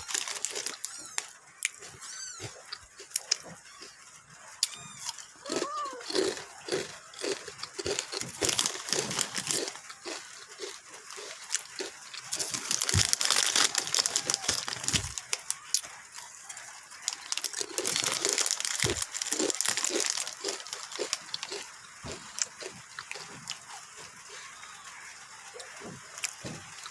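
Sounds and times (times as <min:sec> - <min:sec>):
crunching and chewing snack: 0:00.0 - 0:26.9.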